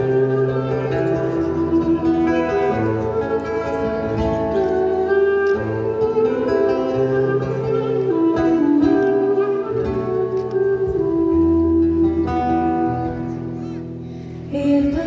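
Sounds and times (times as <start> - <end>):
acoustic guitar: 0.0 - 15.0
live band playing: 0.0 - 15.0.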